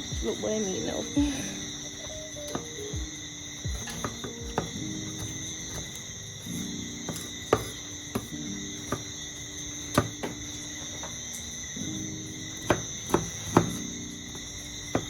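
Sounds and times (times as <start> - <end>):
crickets chirping: 0.0 - 15.0
soft music with held chords: 0.0 - 15.0.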